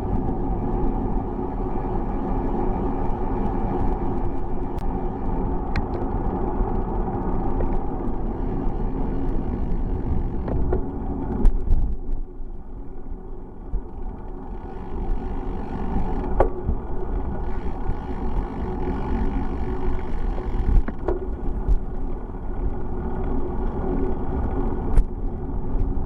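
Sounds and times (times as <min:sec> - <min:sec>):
wind noise on microphone: 0:00.0 - 0:12.4, 0:13.5 - 0:26.0
road noise: 0:00.0 - 0:26.0.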